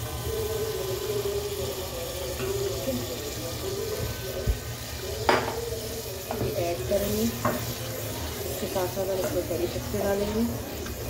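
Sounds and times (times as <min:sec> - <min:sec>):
sauce sizzling and bubbling in oil: 0:00.0 - 0:11.0.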